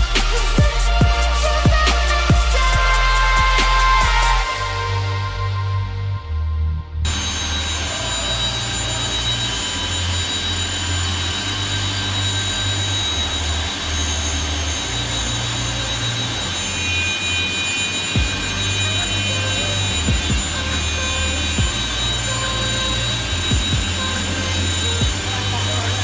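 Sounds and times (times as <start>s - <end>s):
saw motors whirring with whine: 0.0s - 5.2s, 7.0s - 26.0s.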